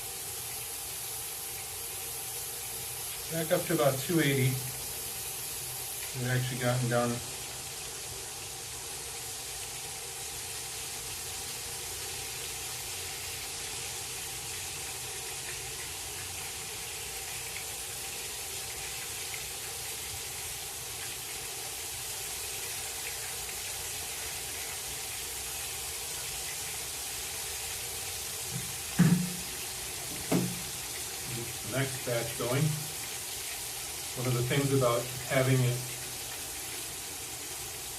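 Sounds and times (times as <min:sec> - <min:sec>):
fish sizzling in oil: 0:00.0 - 0:37.9.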